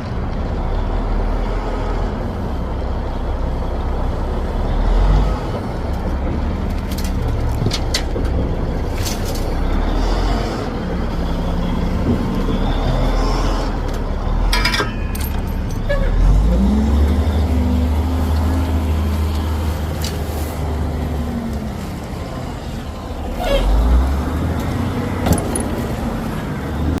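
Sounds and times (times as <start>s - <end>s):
diesel engine revving: 0.0s - 27.0s.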